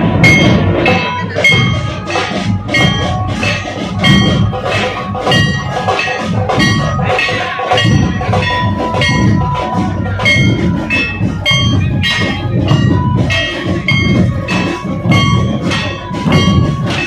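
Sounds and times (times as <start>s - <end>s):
barrel drums beating: 0.0s - 17.0s
metallic clashes: 0.0s - 17.0s.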